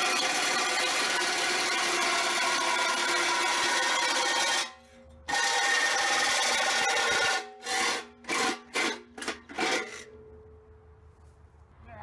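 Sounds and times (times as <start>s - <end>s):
reciprocating saw cutting steel: 0.0s - 10.1s.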